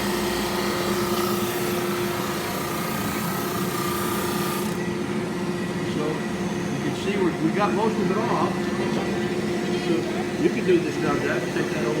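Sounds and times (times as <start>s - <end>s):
drum sander machine hum: 0.0s - 12.0s.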